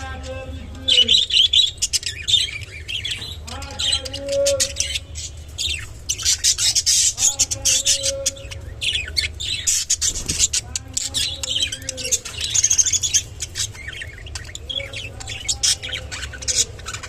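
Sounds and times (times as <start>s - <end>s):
budgerigars chattering and chirping: 0.0s - 17.0s.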